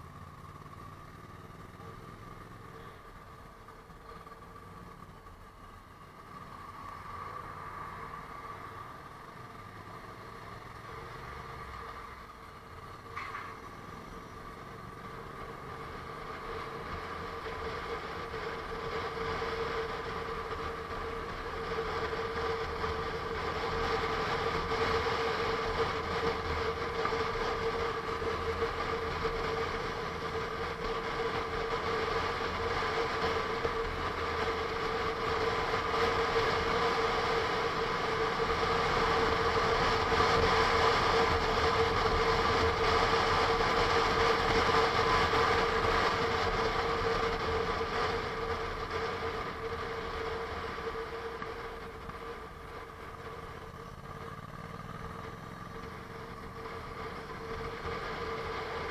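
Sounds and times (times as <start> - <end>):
motorcycle engine cruising: 0.0 - 58.9
wind and road noise: 0.0 - 58.9.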